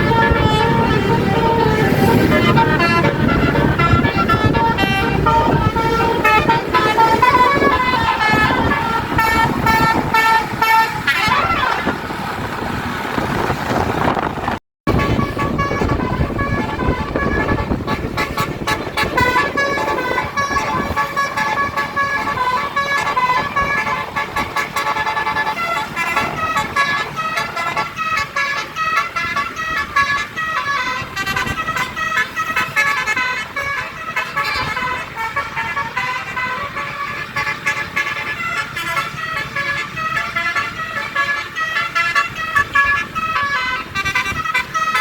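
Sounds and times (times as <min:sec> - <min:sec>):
musical bus air horn melody: 0:00.0 - 0:12.3, 0:14.8 - 0:45.0.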